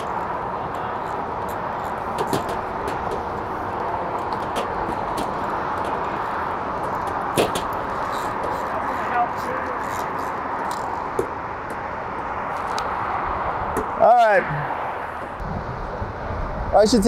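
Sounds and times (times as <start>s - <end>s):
highway traffic rush: 0.0s - 17.0s.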